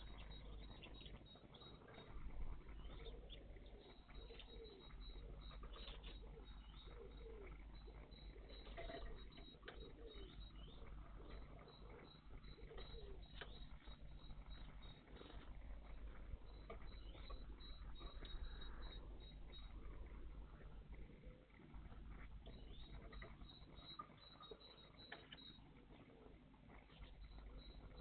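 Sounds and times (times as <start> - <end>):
low repeated bird notes: 0.0 - 28.0
small birds chirping: 0.0 - 28.0.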